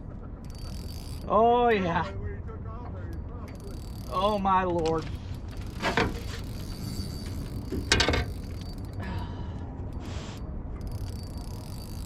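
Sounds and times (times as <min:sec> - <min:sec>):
fishing reel clicking and whirring: 0:00.4 - 0:01.9, 0:03.1 - 0:09.2, 0:09.9 - 0:12.0.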